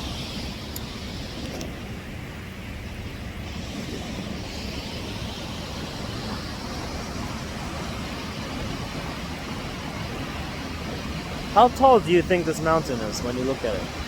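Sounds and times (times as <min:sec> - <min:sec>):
waterfall rushing into pool: 0:00.0 - 0:14.0.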